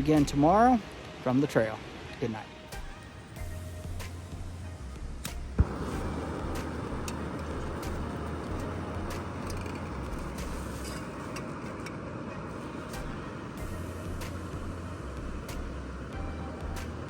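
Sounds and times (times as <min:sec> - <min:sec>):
river rushing: 0:00.0 - 0:03.4, 0:05.6 - 0:17.0.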